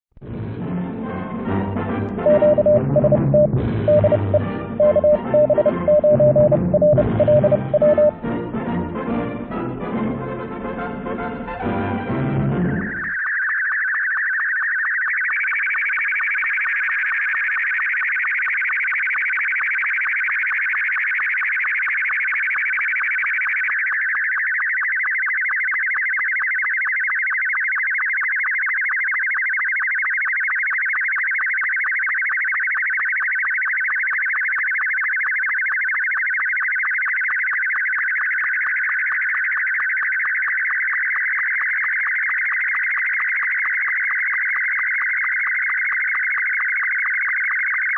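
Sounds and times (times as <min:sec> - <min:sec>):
regular line-sync tick: 0:02.2 - 0:08.2, 0:13.0 - 0:47.9
warbling sstv signal tone: 0:02.2 - 0:08.2, 0:12.7 - 0:47.9.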